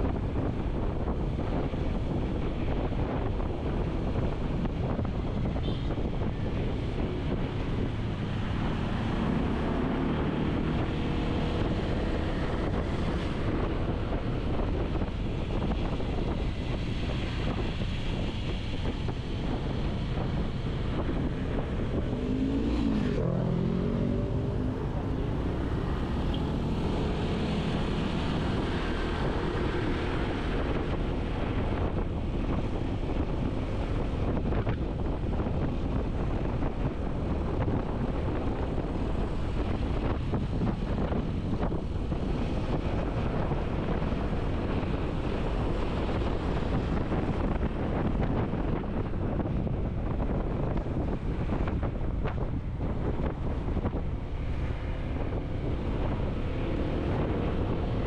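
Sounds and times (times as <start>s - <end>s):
vehicles passing: 0.0s - 58.0s
wind rumble on microphone: 0.0s - 58.0s.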